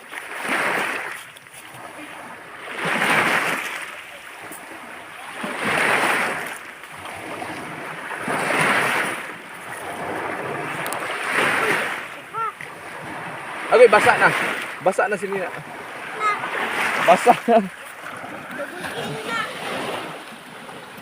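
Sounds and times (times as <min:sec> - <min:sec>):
waves washing up on beach: 0:00.0 - 0:21.0.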